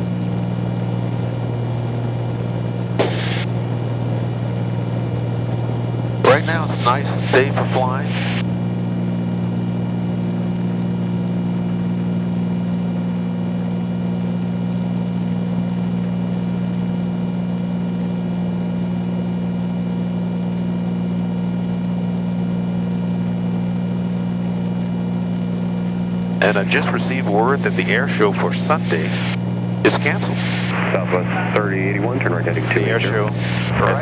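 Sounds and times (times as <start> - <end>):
aircraft cabin engine drone: 0.0 - 34.0.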